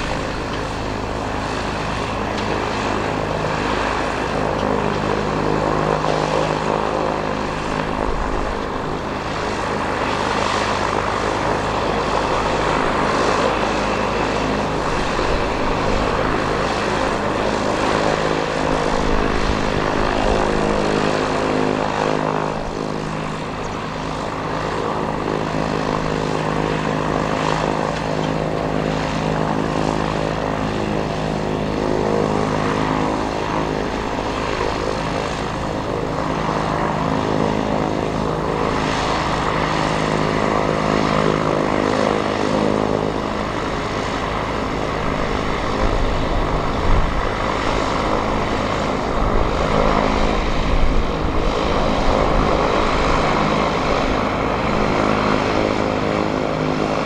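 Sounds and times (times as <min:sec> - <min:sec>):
aircraft engine and propeller running: 0:00.0 - 0:57.0.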